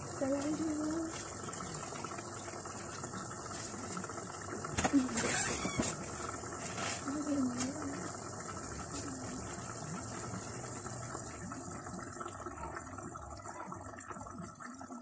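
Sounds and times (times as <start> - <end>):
pot of broth boiling: 0.0 - 15.0.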